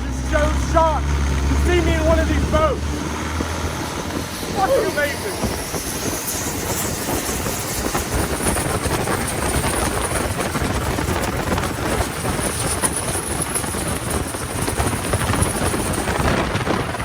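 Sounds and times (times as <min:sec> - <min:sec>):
boat engine running at high revs: 0:00.0 - 0:17.0.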